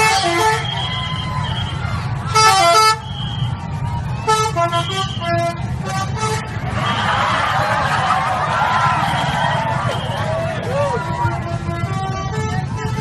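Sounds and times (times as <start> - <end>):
bus musical horn: 0.0 - 7.8, 8.4 - 13.0
steady low rumble: 0.2 - 13.0.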